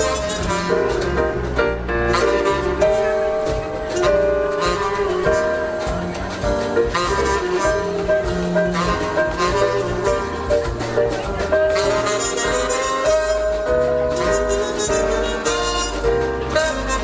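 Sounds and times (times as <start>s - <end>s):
drum strokes: 0.0s - 17.0s
live jazz band playing: 0.0s - 17.0s.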